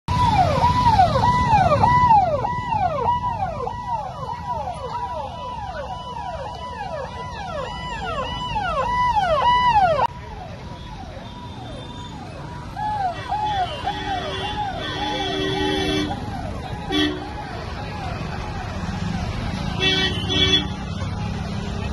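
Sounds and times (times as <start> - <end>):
electronic sirens wailing: 0.1 - 20.7.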